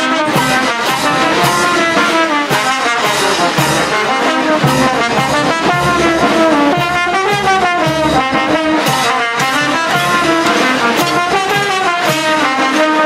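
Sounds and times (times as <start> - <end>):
brass band playing: 0.0 - 13.0
bass drum beat: 1.1 - 12.4.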